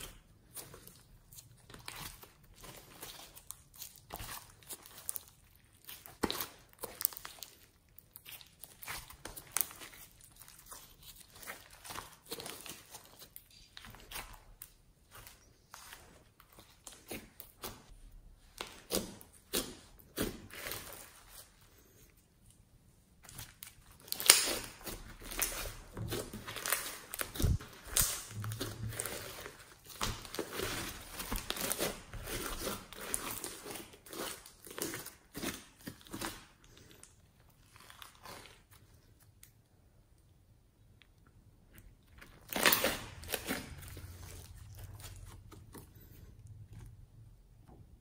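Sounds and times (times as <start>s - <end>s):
slime crunching and popping: 0.0s - 21.5s, 23.2s - 39.6s, 41.1s - 46.9s
loud slime squish: 0.0s - 21.7s, 23.2s - 39.0s, 42.1s - 46.9s.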